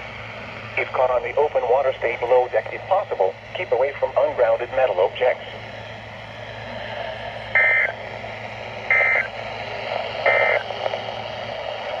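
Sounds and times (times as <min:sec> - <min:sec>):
radio hiss and hum: 0:00.3 - 0:12.0.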